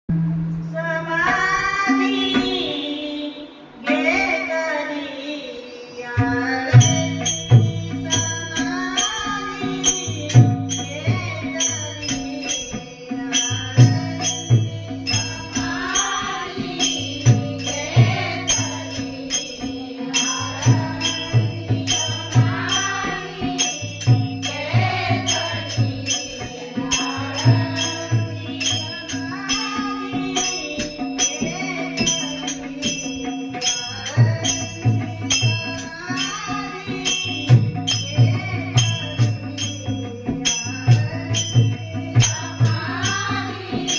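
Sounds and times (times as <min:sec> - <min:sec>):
small hand cymbals: 0:00.4 - 0:43.9
woman singing: 0:00.6 - 0:43.9
drum beats: 0:06.2 - 0:43.9.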